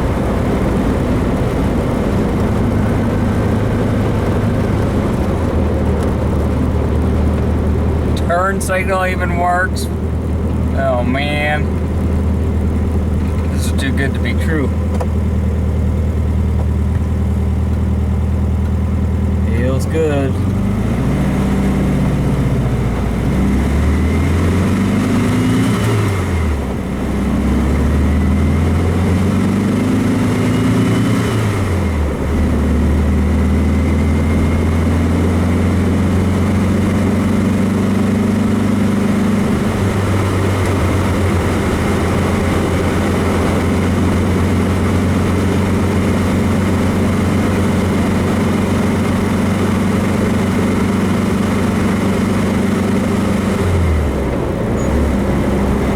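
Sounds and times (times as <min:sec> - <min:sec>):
car engine accelerating through gears: 0:00.0 - 0:55.9.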